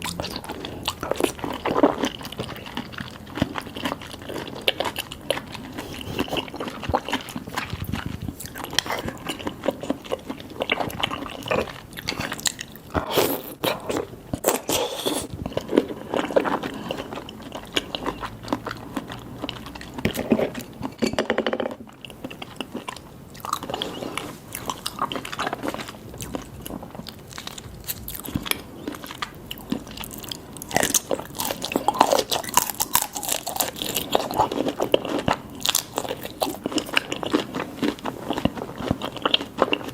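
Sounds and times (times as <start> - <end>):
crunchy chewing: 0.0 - 21.1, 21.9 - 39.9.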